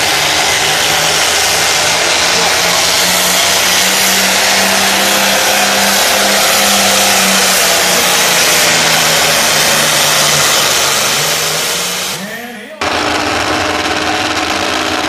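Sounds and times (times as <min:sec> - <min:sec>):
diesel engine at full load: 0:00.0 - 0:15.0.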